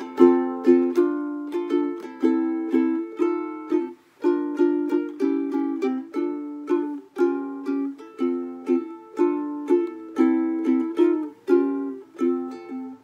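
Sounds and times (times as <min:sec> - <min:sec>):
ukulele strumming chords: 0:00.0 - 0:13.0.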